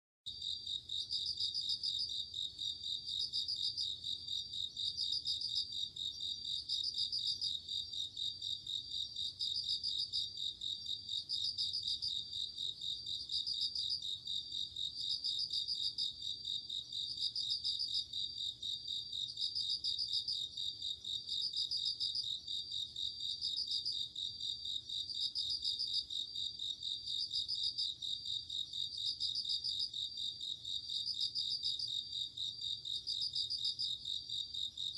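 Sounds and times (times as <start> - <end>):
crickets chirping: 0.3 - 34.9.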